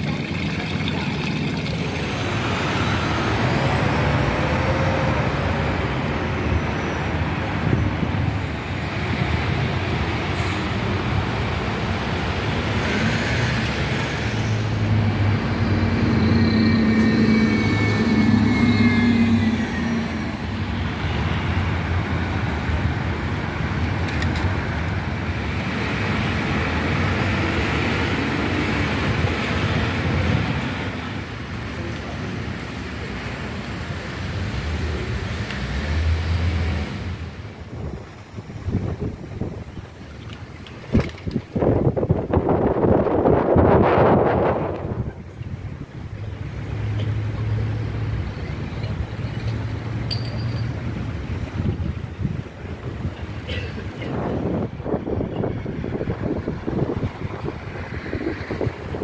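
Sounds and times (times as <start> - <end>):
cars and buses passing: 0.0 - 59.0
heavy vehicle engine hum: 0.0 - 59.0.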